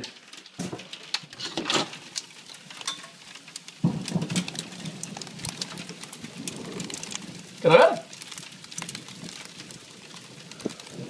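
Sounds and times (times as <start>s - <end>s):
hail and rain pattering: 0.0s - 11.0s.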